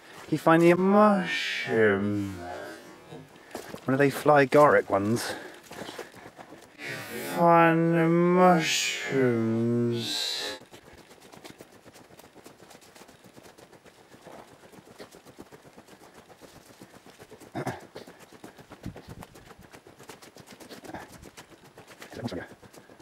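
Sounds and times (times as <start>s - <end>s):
footsteps on earth path: 0.0s - 23.0s.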